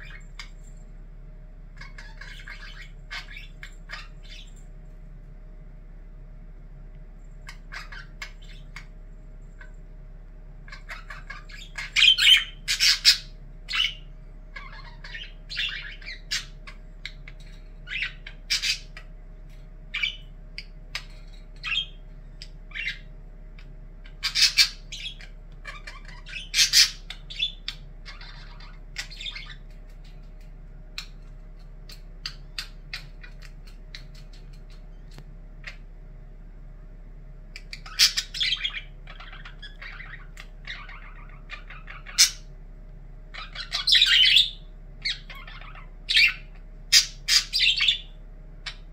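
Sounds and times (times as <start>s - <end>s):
budgerigar chirping and squawking: 0.0s - 0.6s, 1.8s - 4.6s, 7.4s - 9.0s, 10.6s - 19.2s, 19.9s - 35.9s, 37.5s - 42.5s, 43.3s - 48.9s.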